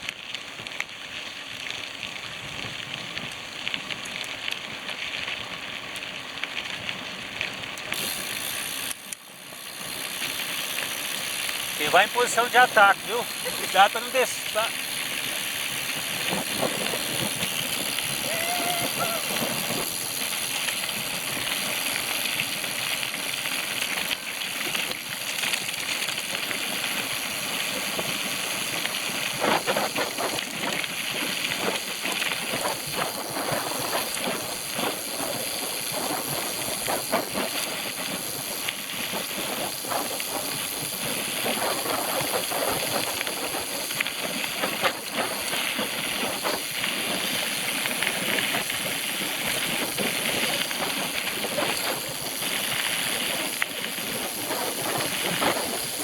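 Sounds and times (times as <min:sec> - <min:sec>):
bike clicks and rattles: 0:00.0 - 0:56.0
bike tyres hissing on dirt: 0:00.0 - 0:56.0
wind: 0:00.0 - 0:56.0.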